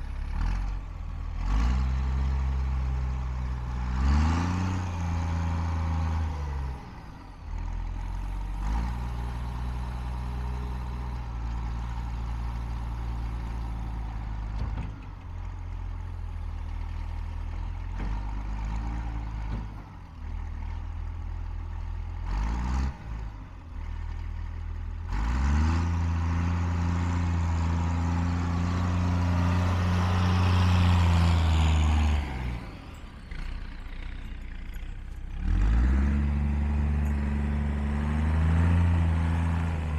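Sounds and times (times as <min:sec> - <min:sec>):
wheel loader diesel engine revving: 0:00.0 - 0:39.9.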